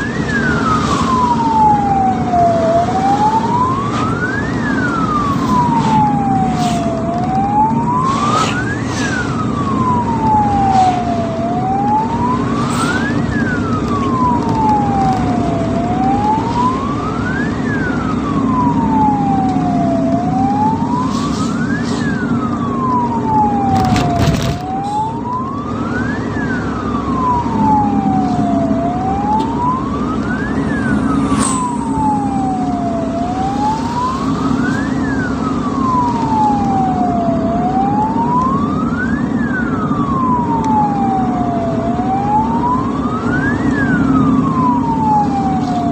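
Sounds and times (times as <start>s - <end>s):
ambulance siren wailing: 0.0s - 45.9s
vehicle engine and road noise: 0.0s - 45.9s.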